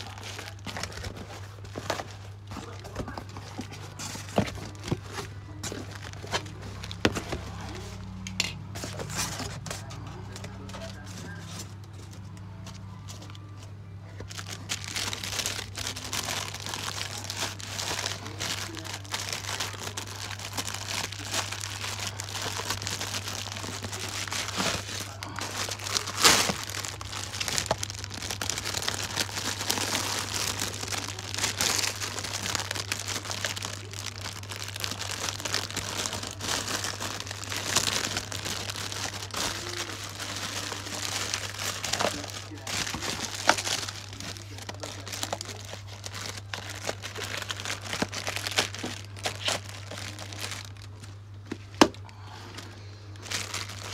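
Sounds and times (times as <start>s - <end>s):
plastic wrapping crinkling: 0.0s - 53.9s.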